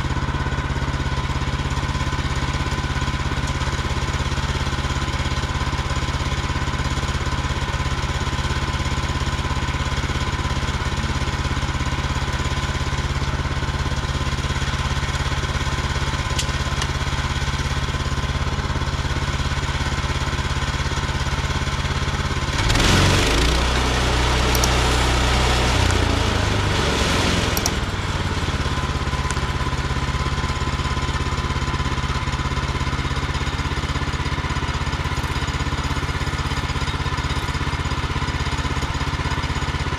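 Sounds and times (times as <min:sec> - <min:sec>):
bandsaw mill engine running: 0:00.0 - 0:39.9.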